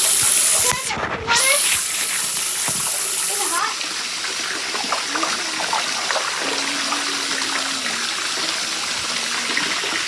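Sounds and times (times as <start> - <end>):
water hissing in bathtub: 0.0 - 10.0.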